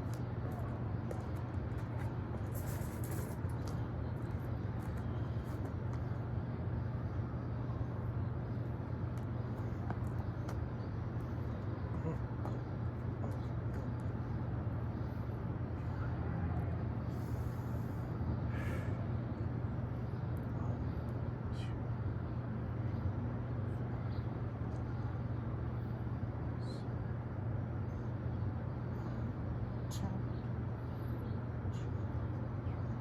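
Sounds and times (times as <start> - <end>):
even city rumble: 0.0 - 33.0
steady low hum: 0.0 - 33.0.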